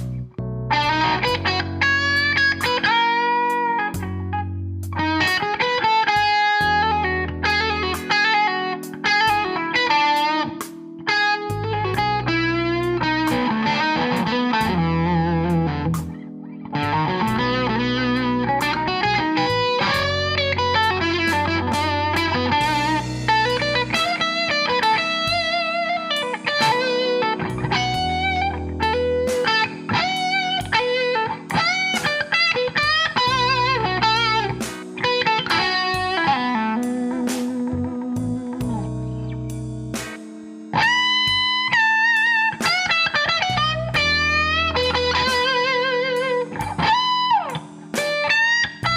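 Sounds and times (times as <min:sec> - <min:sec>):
electric guitar blues lead: 0:00.0 - 0:48.9
sustained low backing notes: 0:00.0 - 0:48.9.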